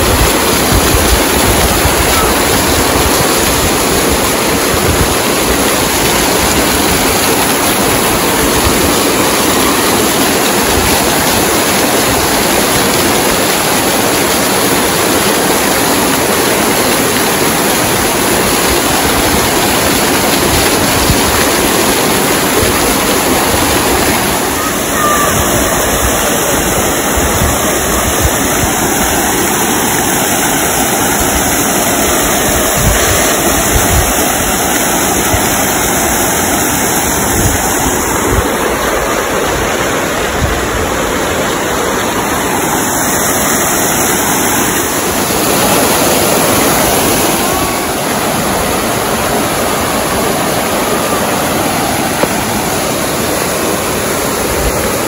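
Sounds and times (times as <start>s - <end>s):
fountain water splashing into pool: 0.0s - 55.0s.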